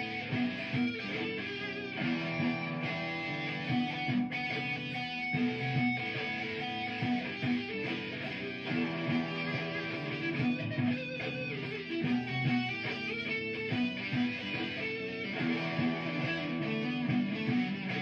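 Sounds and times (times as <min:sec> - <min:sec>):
electric guitar solo: 0:00.0 - 0:18.0
looped guitar part: 0:00.0 - 0:18.0.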